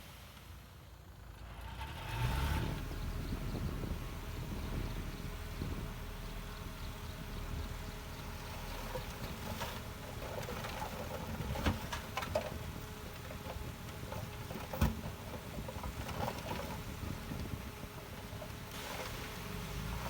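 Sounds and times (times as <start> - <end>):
earthmoving machinery rumbling: 1.0 - 20.0.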